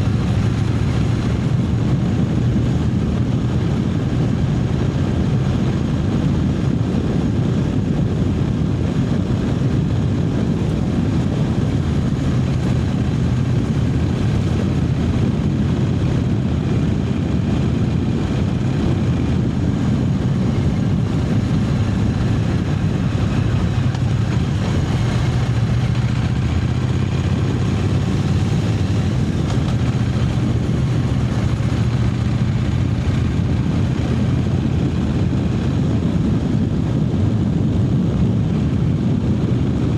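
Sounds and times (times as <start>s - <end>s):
motorcycle engine running: 0.0s - 39.9s
rushing wind noise: 0.0s - 39.9s.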